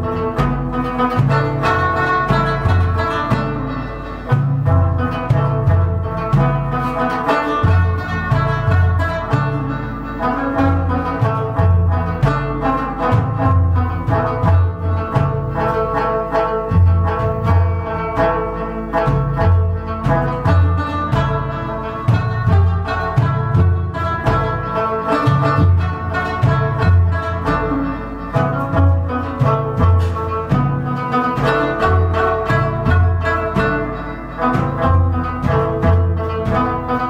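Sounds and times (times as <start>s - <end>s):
plucked lute tune: 0.0s - 37.0s.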